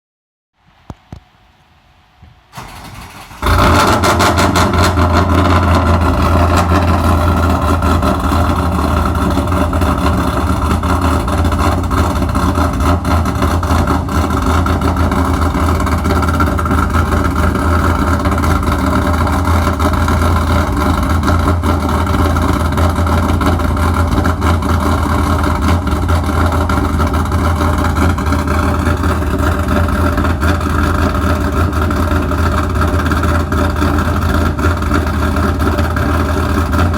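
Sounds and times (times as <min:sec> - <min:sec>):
engine cranking: 0:02.6 - 0:36.9
loud choppy engine idle: 0:02.6 - 0:36.9.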